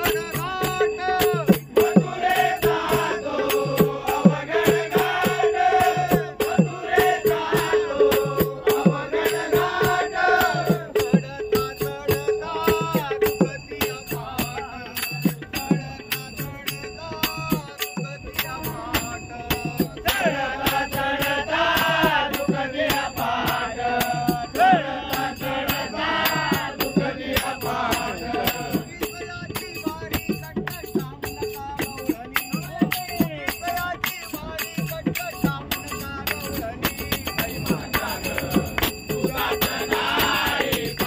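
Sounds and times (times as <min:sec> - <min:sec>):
jingling percussion beat: 0:00.0 - 0:41.0
man singing devotional song: 0:00.0 - 0:41.0.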